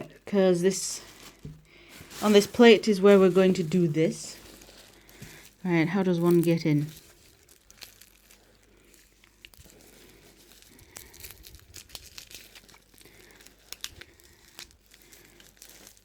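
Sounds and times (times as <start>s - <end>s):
plastic packet crinkling: 0.4s - 16.0s.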